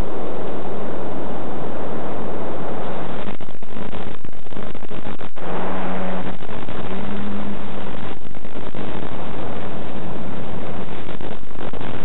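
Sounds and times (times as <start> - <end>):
faint low hum: 0.0 - 12.0
loud static hiss: 0.0 - 12.0.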